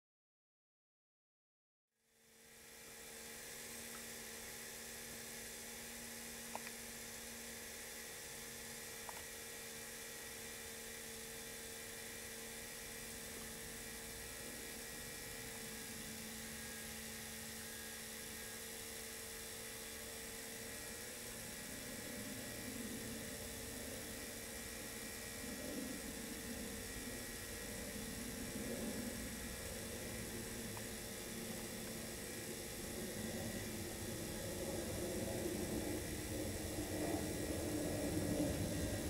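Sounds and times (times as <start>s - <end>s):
electric hum with whine: 2.0s - 39.0s.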